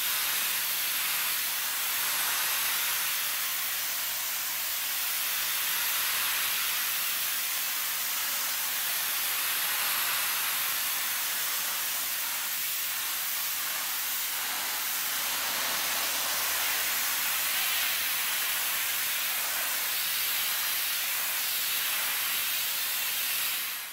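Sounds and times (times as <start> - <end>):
pressure washer spraying concrete: 0.0 - 23.9.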